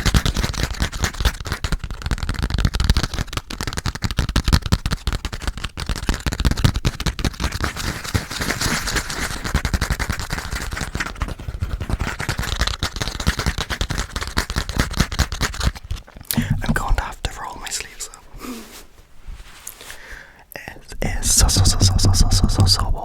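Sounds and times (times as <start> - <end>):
tapping on a passport: 0.0 - 17.1, 21.2 - 22.9
scratchy rubbing on paper: 0.0 - 19.6, 21.0 - 23.0.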